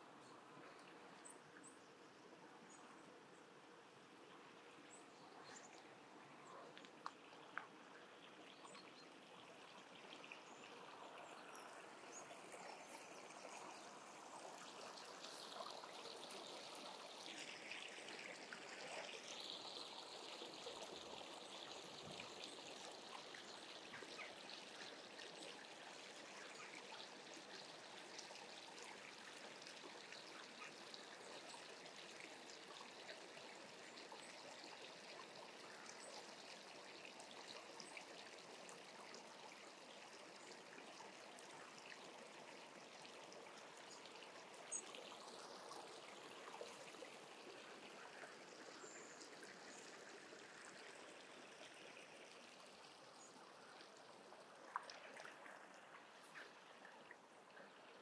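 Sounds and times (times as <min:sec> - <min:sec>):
small stream trickling: 0:00.0 - 0:58.0.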